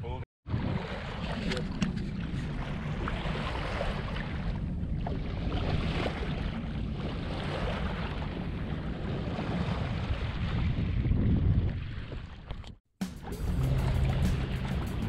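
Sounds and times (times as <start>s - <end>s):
wind buffeting microphone: 0.5s - 12.8s
sea water washing along hull: 0.5s - 15.0s.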